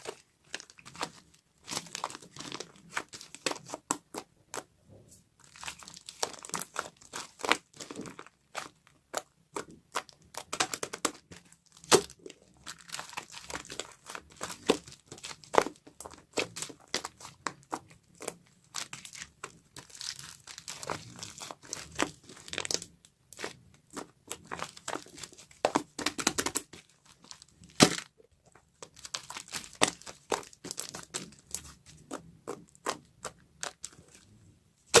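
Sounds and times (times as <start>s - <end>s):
shaving foam crackling and popping: 0.0s - 4.7s, 5.4s - 35.0s.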